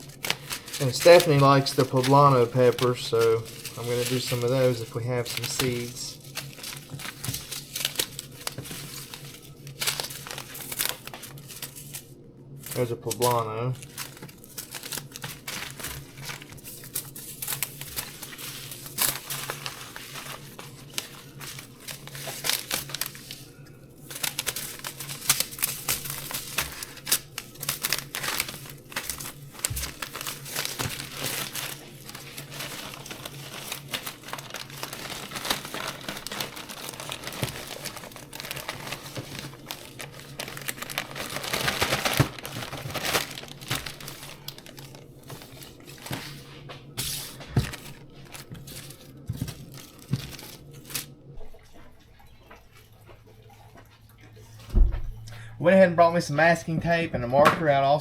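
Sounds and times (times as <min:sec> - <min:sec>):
seed packets rustling and crinkling: 0:00.0 - 0:51.3.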